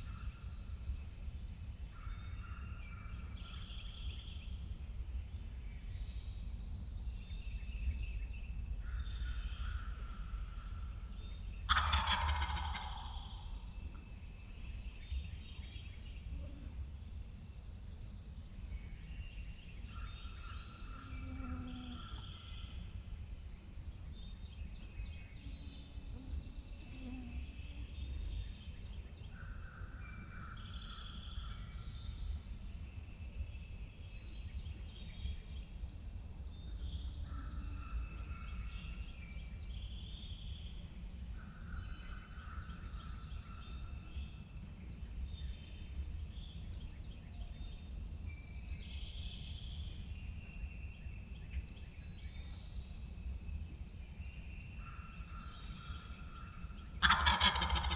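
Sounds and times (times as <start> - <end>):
birds singing: 0.0 - 16.4, 18.1 - 57.9.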